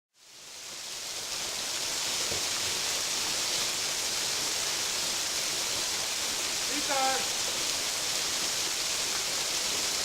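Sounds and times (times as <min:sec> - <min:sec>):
waterfall splashing: 0:00.2 - 0:10.0.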